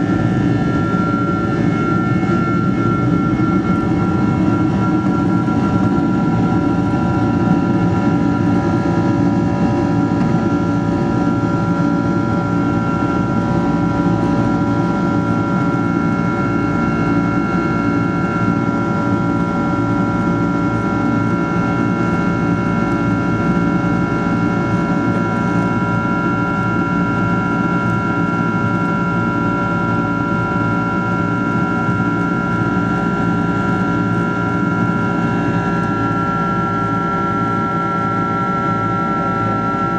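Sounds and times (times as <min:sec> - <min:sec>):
jet engine whining tones: 0:00.0 - 0:39.9
jet engines roaring: 0:00.0 - 0:39.9.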